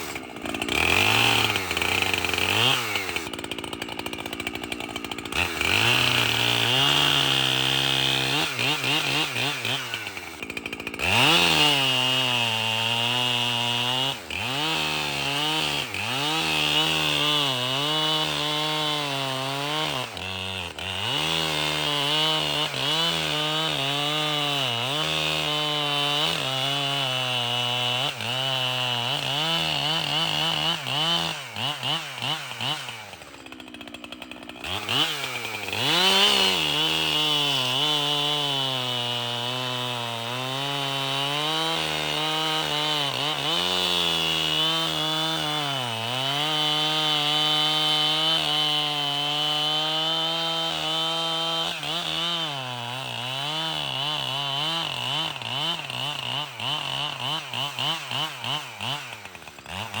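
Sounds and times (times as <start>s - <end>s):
chainsaw cutting wood: 0.0s - 60.0s.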